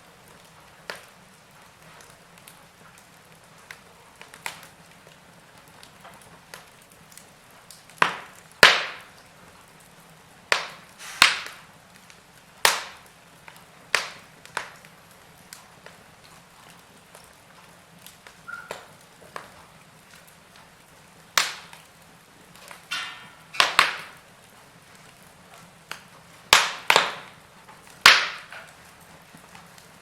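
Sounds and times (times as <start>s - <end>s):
burning logs crackling: 0.0s - 30.0s.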